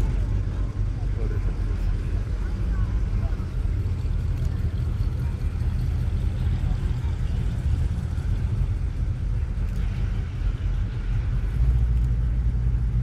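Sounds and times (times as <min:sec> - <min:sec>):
car engines rumbling past: 0:00.0 - 0:13.0.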